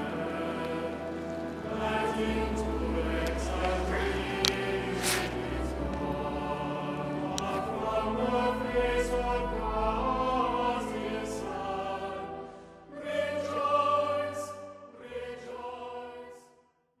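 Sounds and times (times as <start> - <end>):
choir singing sustained notes: 0.0 - 16.8.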